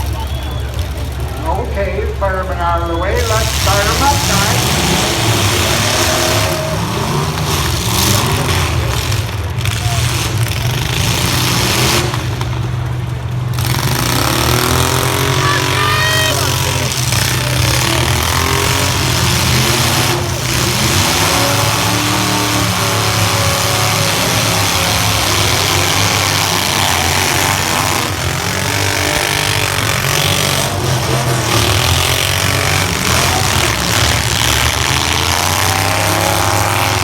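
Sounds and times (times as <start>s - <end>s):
truck engines revving: 0.0s - 37.0s.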